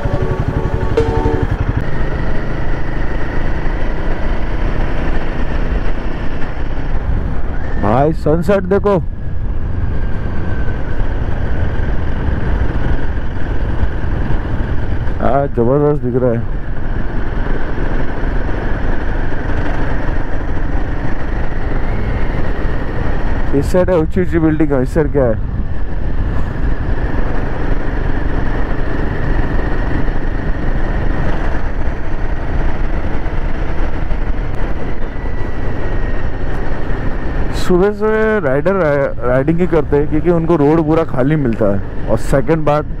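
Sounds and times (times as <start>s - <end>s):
motorcycle engine running: 0.0s - 43.0s
wind rumble on microphone: 0.0s - 43.0s.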